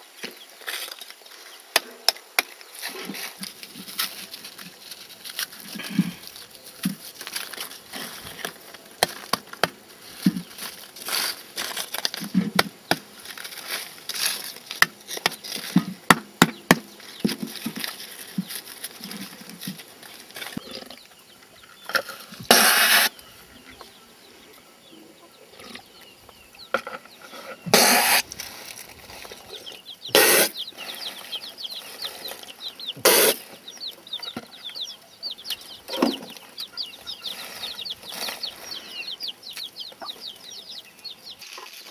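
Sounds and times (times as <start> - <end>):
chickens clucking: 0.2 - 41.9
chicks peeping: 2.7 - 41.9.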